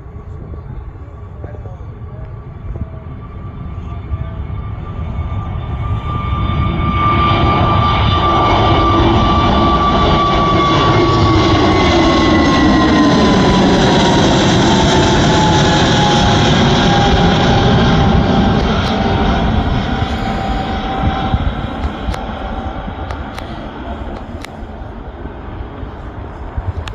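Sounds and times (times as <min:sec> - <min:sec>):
jet engine whine: 0:00.0 - 0:26.9
jet engines rumbling at takeoff: 0:00.0 - 0:26.9.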